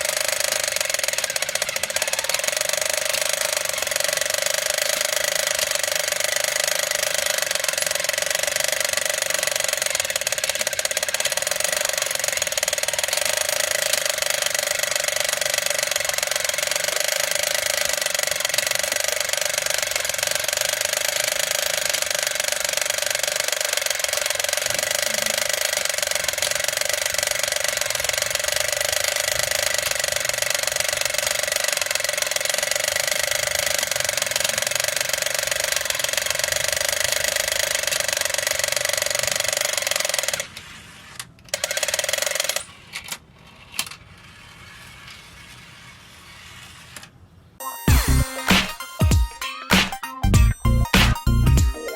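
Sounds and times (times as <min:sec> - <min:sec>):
toy motor and gears whirring: 0:00.0 - 0:47.4.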